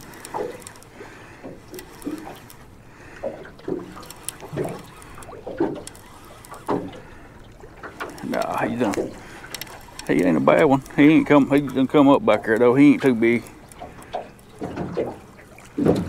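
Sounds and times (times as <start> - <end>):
waves slapping boat hull: 0.0 - 16.0
wind: 0.0 - 16.0.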